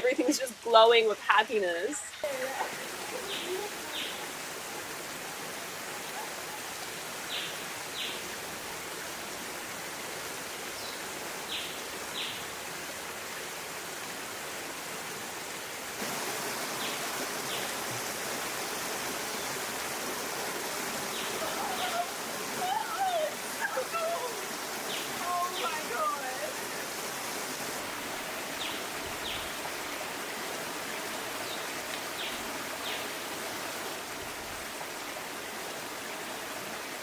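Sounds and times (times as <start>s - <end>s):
stream rushing: 0.0s - 37.0s.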